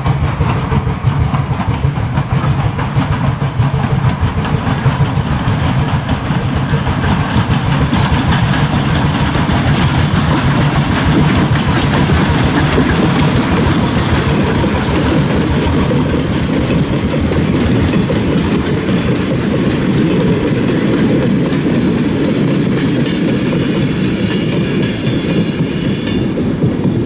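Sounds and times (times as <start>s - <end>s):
train wheels clattering over rail joints: 0.0s - 27.0s.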